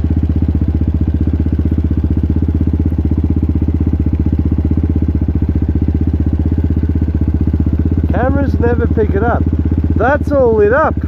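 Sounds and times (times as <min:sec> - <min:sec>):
dirt bike engine idling: 0:00.0 - 0:11.0.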